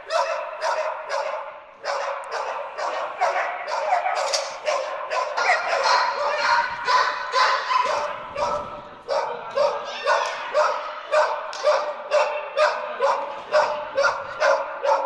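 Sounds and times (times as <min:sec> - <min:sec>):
dog barking high-pitched: 0:00.0 - 0:15.0.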